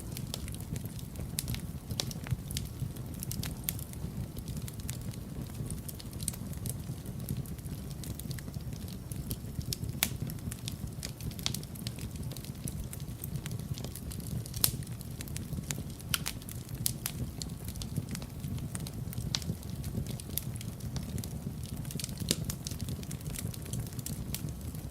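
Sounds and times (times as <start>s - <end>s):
wood fire burning and crackling: 0.0s - 24.9s.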